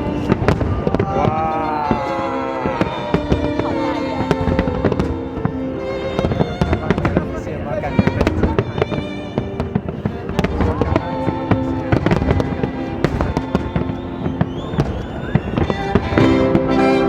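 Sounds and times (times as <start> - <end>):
classical violin music: 0.0 - 17.0
fireworks bursting and crackling: 0.0 - 17.0.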